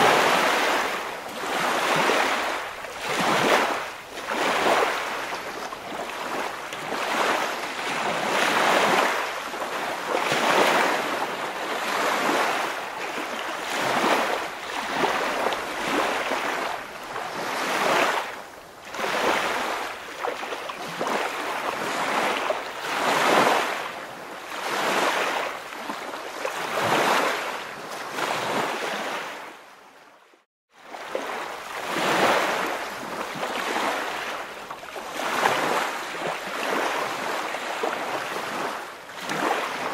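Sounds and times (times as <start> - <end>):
waves washing: 0.0 - 29.6, 30.8 - 39.9.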